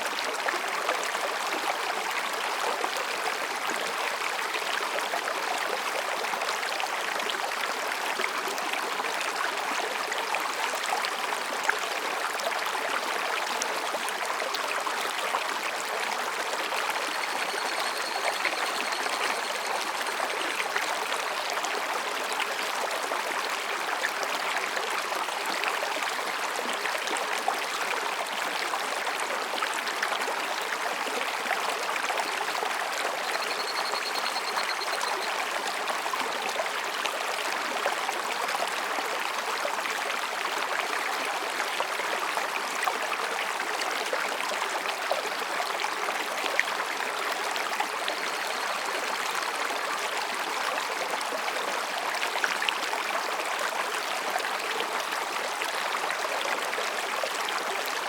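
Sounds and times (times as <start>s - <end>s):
stream babbling between rocks: 0.0s - 58.0s.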